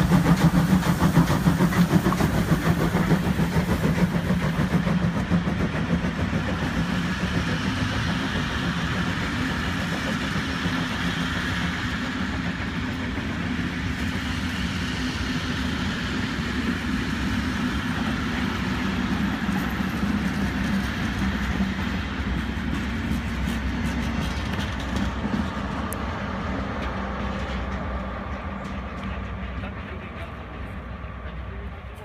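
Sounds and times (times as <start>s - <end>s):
locomotive passing: 0.0s - 32.0s
train wheels rumbling on rails: 0.0s - 32.0s.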